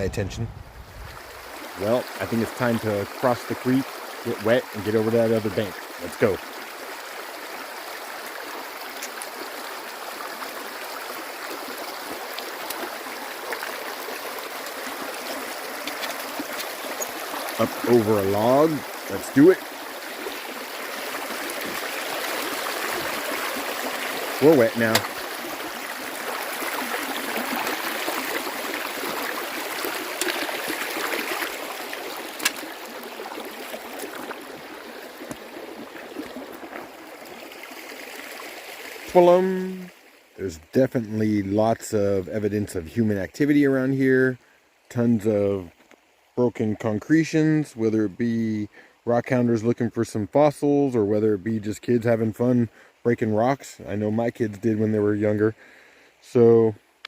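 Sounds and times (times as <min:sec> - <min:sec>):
creek water babbling: 0:00.0 - 0:57.0.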